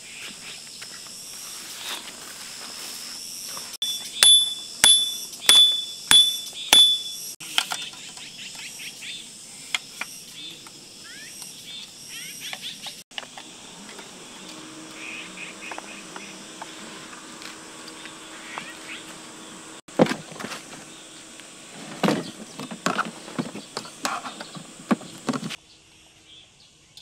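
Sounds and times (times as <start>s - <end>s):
insect hum: 0.0s - 27.0s.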